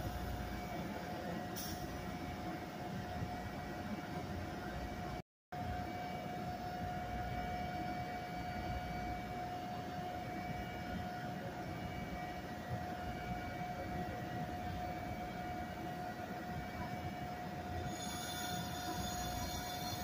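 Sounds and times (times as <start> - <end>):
electric train whine and rumble: 0.0 - 20.0.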